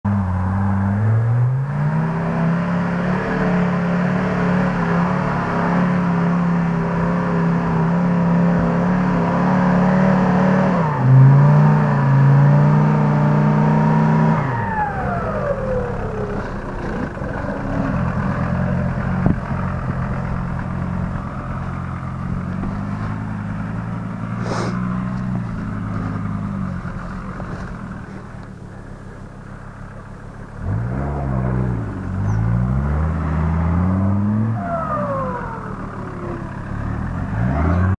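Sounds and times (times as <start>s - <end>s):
off-road vehicle engine revving: 0.0s - 37.9s.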